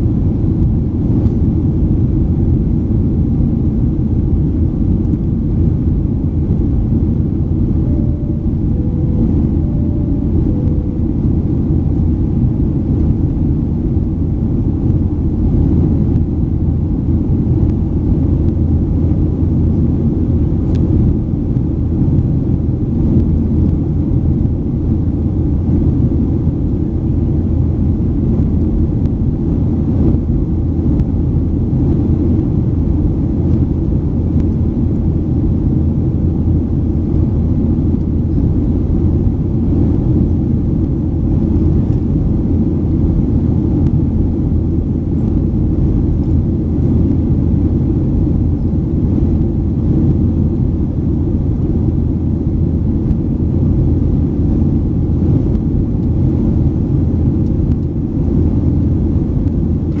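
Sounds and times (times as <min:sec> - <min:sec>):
airplane cabin engine rumble: 0:00.0 - 1:00.0.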